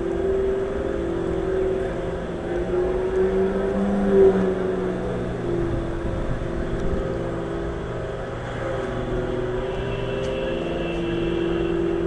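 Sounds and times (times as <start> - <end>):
engine droning hum: 0.0 - 12.0.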